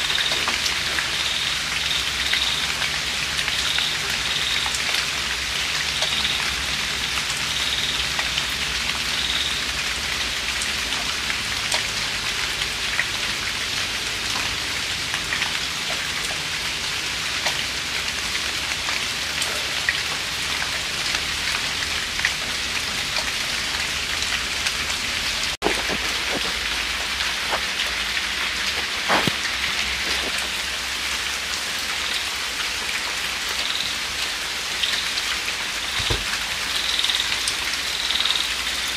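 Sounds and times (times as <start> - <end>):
raindrops ticking: 0.0 - 38.9.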